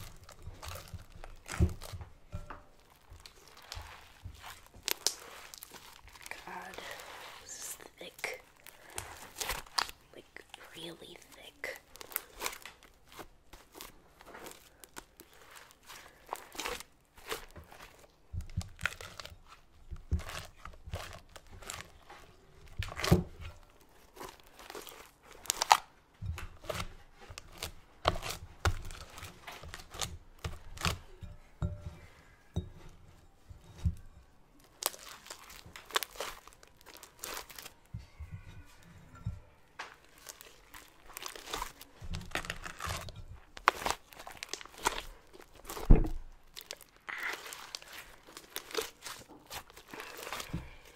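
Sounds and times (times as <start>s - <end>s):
slime crackling and popping: 0.0s - 31.6s, 33.3s - 39.2s, 39.8s - 50.9s.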